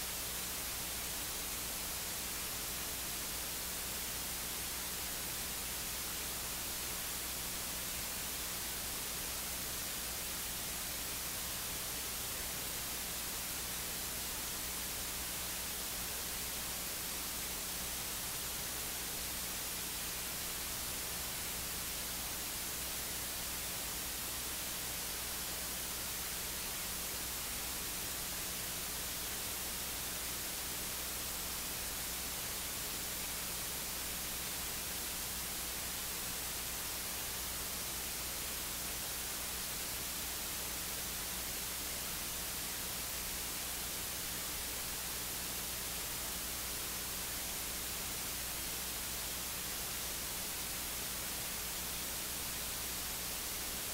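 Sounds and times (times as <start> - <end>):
electronic hiss: 0.0 - 53.9.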